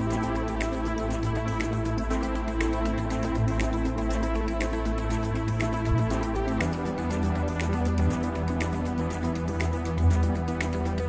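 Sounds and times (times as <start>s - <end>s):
sustained low bass: 0.0s - 11.0s
ticking hi-hat pattern: 0.0s - 11.0s.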